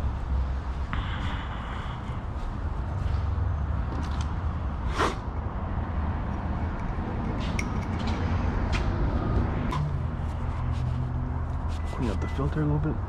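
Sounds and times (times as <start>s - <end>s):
steady low rumble: 0.0s - 12.3s.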